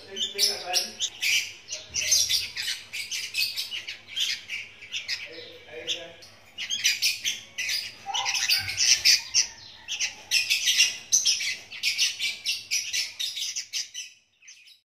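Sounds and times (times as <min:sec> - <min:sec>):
young birds chirping: 0:00.0 - 0:14.8.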